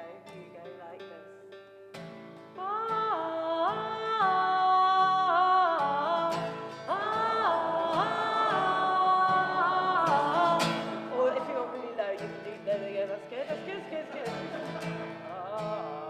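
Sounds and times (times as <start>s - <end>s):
acoustic guitar picking: 0.0s - 16.0s
woman singing wordless notes: 0.0s - 16.0s.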